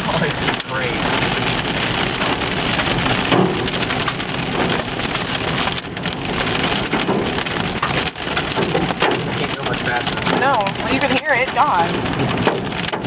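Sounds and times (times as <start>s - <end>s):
hailstones pelting car roof: 0.0s - 13.0s.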